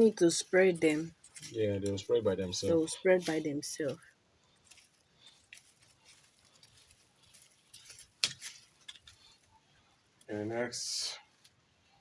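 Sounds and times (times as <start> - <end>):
faint rustling: 0.0 - 10.5.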